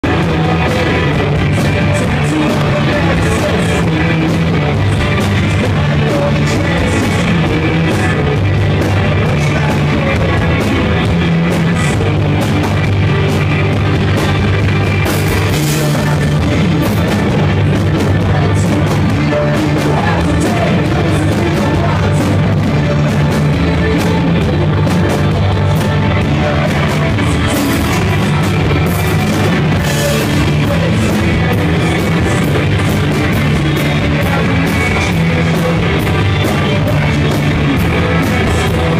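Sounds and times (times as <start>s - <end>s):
bass guitar: 0.0s - 38.9s
drums and cymbals: 0.0s - 38.9s
electric guitars: 0.0s - 38.9s.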